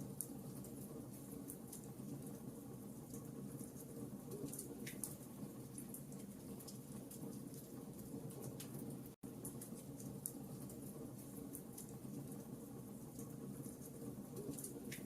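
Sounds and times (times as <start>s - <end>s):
campfire burning: 0.0s - 15.0s
crackles and pops of fire: 0.0s - 15.0s.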